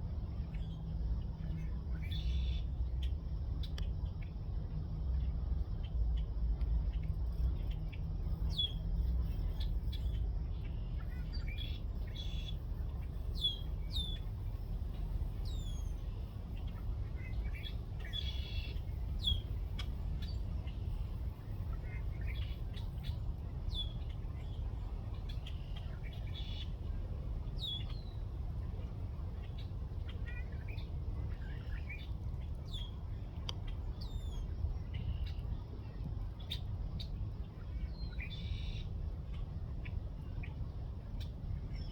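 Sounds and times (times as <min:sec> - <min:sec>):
steady low rumble: 0:00.0 - 0:41.9
small birds chirping: 0:06.9 - 0:41.9.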